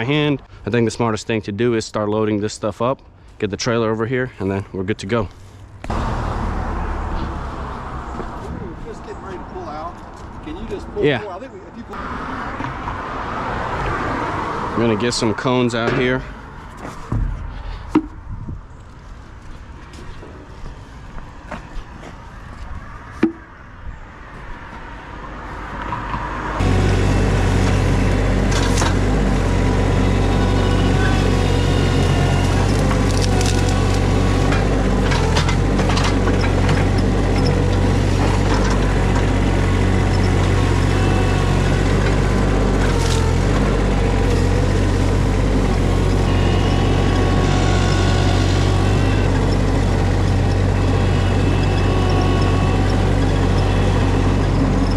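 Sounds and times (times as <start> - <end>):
heavy engine humming: 3.1 - 22.4, 24.8 - 54.9.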